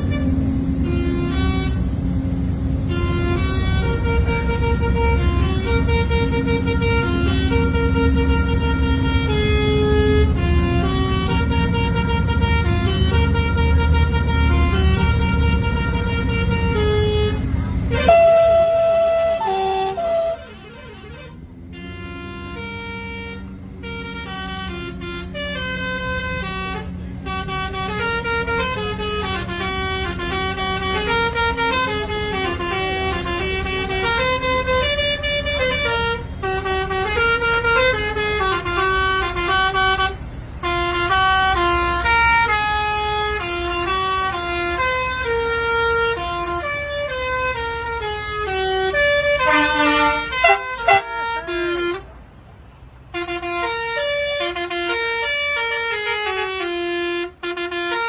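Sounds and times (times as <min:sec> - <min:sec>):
horn-like tune: 0:02.9 - 0:52.1, 0:53.1 - 0:58.0.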